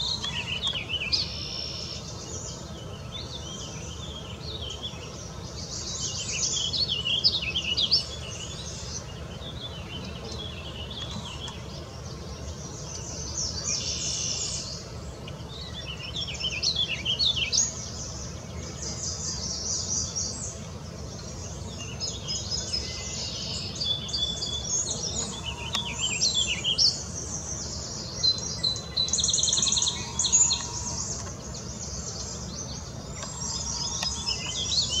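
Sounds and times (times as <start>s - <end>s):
birds chirping and trilling: 0.0s - 35.0s
low background noise: 0.0s - 35.0s.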